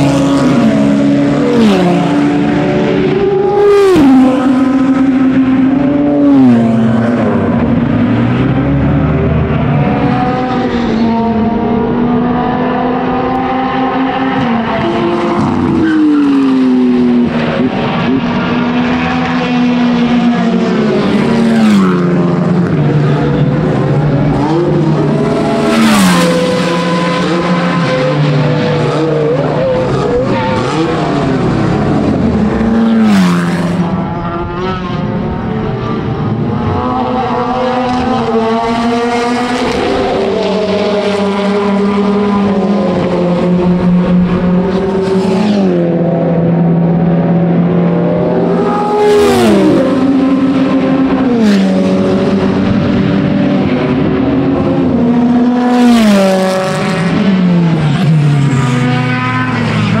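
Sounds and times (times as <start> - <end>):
racing car engines passing: 0.0 - 60.0.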